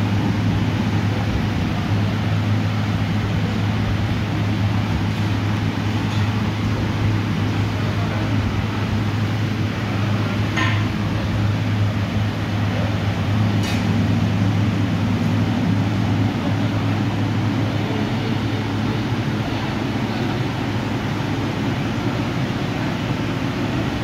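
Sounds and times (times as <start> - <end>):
refrigeration unit humming: 0.0 - 24.0.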